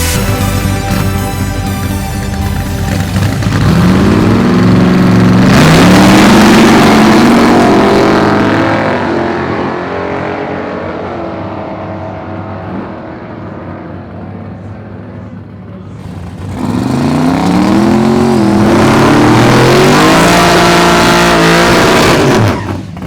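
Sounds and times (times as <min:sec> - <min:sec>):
drag racing car accelerating: 0:00.0 - 0:23.0.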